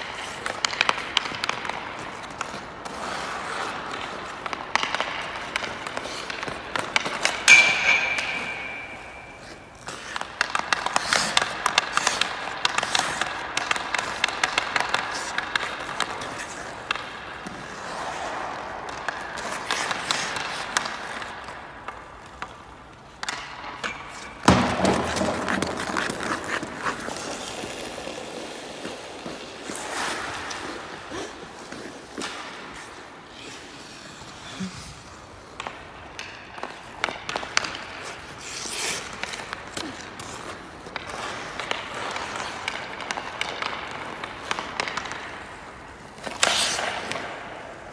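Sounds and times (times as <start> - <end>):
hockey stick hitting pucks: 0.0 - 34.7, 35.3 - 47.9
skates scraping on ice: 0.0 - 47.9.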